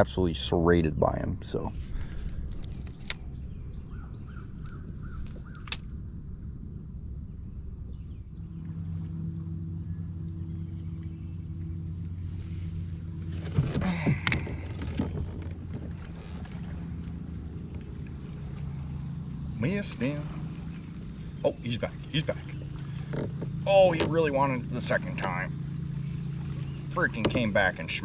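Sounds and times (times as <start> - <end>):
low rumble: 0.0 - 28.0
motor hum: 0.0 - 28.0.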